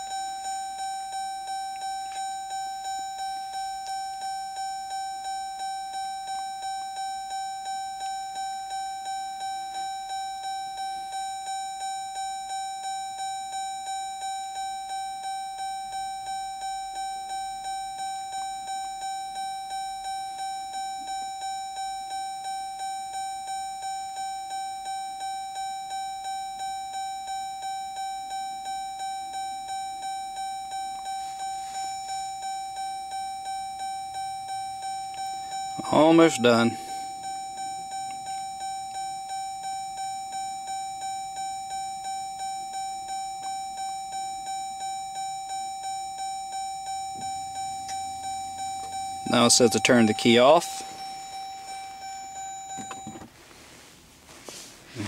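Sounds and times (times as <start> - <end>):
car door warning chime: 0.0 - 53.4.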